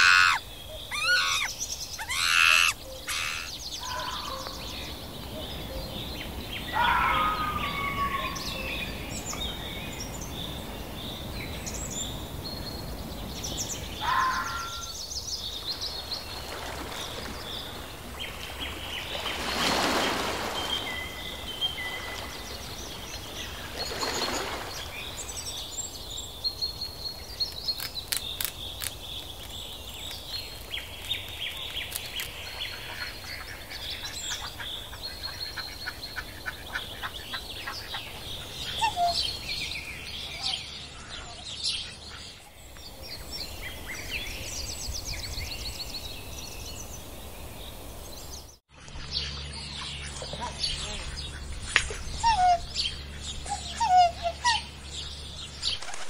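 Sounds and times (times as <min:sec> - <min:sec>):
bird calls and chirps: 0:00.0 - 0:56.0.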